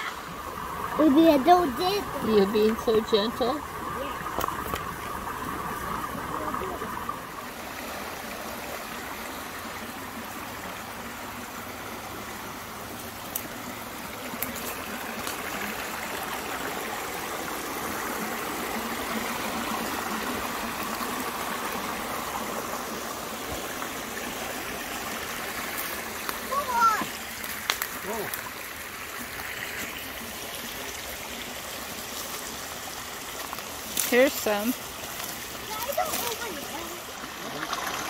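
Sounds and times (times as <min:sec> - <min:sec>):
creek running over rocks: 0:00.0 - 0:38.0.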